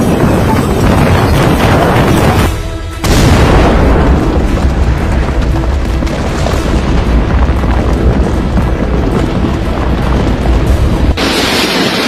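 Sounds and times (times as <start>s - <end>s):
music: 0.0s - 11.8s
volcanic eruption boom and rumble: 0.0s - 12.0s.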